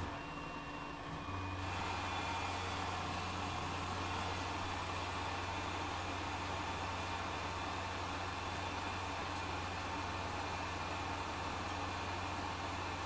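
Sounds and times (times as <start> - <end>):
lathe machine hum and hiss: 0.0 - 13.0.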